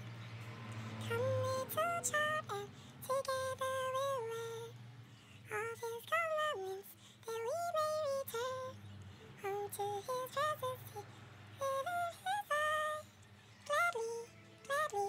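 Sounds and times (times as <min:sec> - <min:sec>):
woman singing softly: 0:00.9 - 0:15.0.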